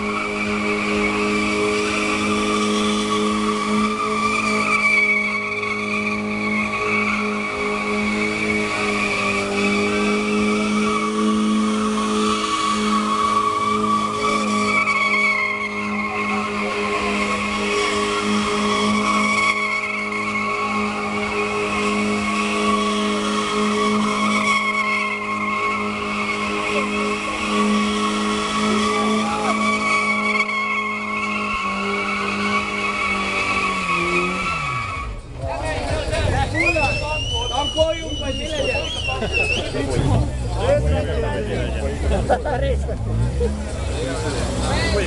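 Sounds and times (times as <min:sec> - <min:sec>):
car engine at steady revs: 0:00.0 - 0:36.2, 0:39.7 - 0:45.0
tyres screeching: 0:00.0 - 0:45.0.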